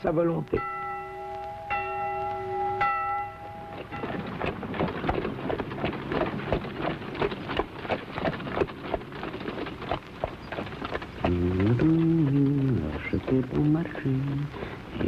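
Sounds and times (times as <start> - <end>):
horse hooves clattering: 0.5 - 15.0
wooden cart wheels knocking: 2.8 - 15.0.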